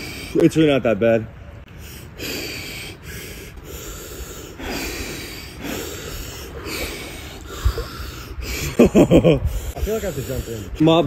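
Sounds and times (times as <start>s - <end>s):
man breathing hard: 0.0s - 0.4s, 1.7s - 10.9s.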